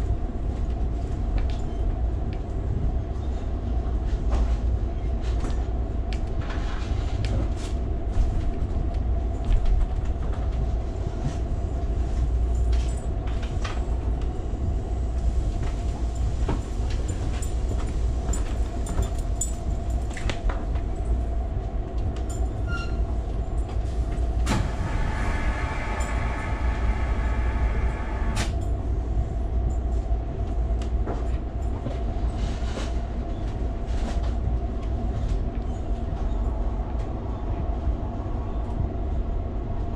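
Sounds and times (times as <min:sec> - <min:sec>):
train clicks and knocks: 0:00.0 - 0:37.8
train wheels rumbling on rails: 0:00.0 - 0:39.9.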